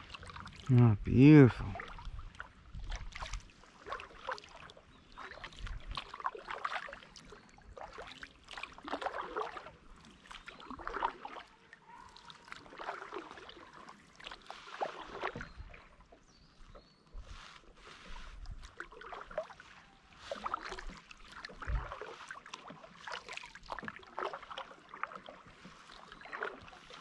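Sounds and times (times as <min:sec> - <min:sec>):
kayak paddle splashing in water: 0:01.6 - 0:27.0.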